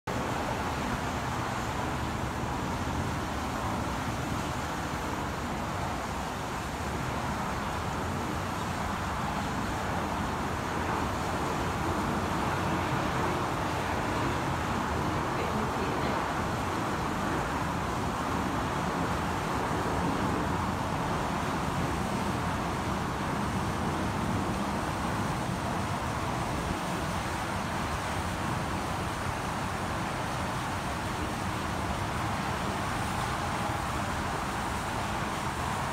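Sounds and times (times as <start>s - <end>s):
distant highway traffic: 0.1s - 35.9s.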